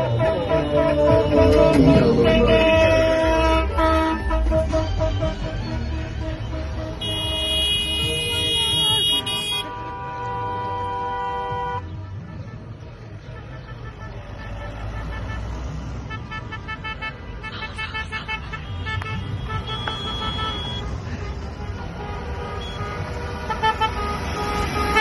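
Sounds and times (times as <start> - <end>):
car horns blaring: 0.0 - 25.0
engines and tyres rumbling: 0.0 - 25.0.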